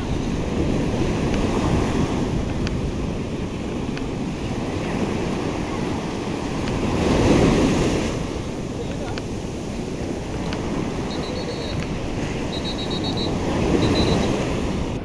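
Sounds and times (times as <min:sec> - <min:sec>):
surf breaking on beach: 0:00.0 - 0:15.0
wind rumbling on microphone: 0:00.0 - 0:15.0.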